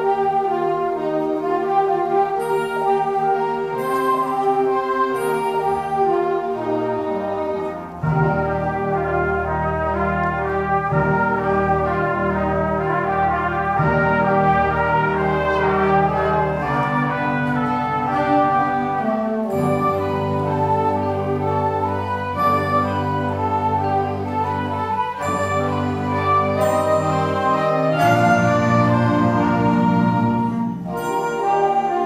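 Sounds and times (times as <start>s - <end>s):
low brass: 0.0s - 32.0s.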